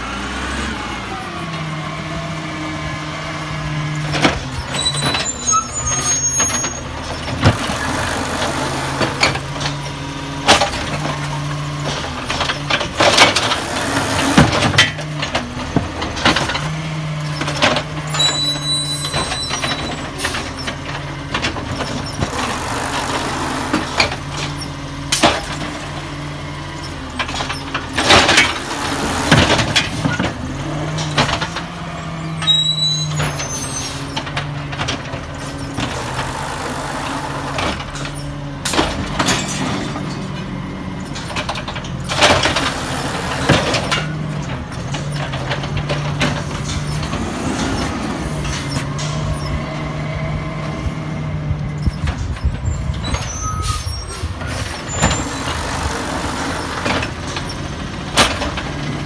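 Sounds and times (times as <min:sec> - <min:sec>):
garbage truck engine humming: 0:00.0 - 0:59.0.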